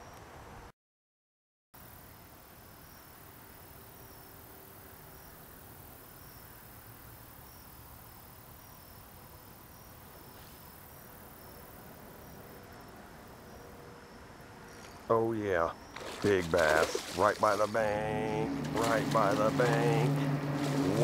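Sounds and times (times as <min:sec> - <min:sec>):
insect chirping: 0:01.8 - 0:21.0.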